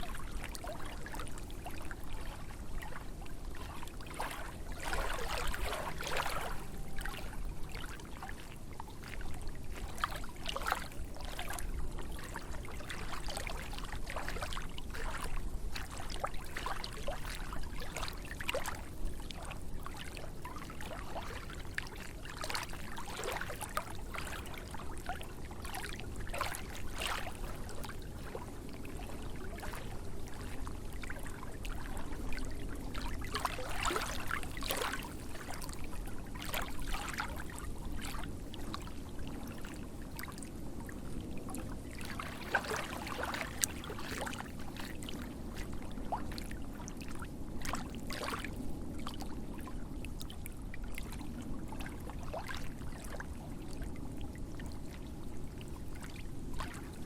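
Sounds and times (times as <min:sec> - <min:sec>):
lake waves lapping and splashing: 0:00.0 - 0:57.0.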